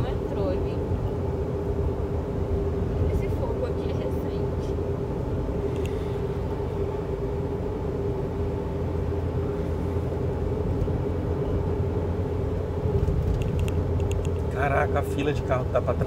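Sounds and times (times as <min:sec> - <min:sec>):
tyre and engine noise in car: 0:00.0 - 0:16.0.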